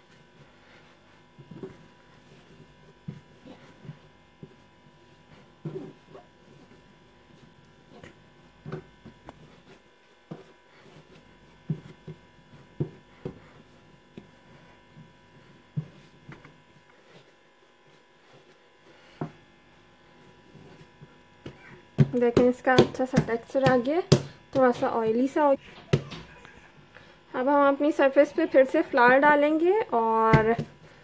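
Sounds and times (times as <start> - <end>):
faint steady hum: 0.0 - 31.0
dough thumping as kneaded: 1.2 - 19.4, 20.2 - 26.5, 28.7 - 31.0.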